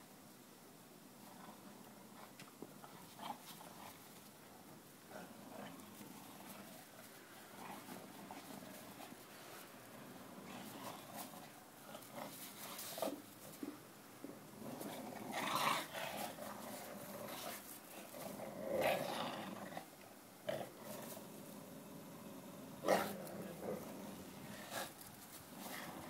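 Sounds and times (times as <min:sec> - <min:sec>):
dogs growling in play: 0:01.2 - 0:13.6, 0:14.2 - 0:26.0.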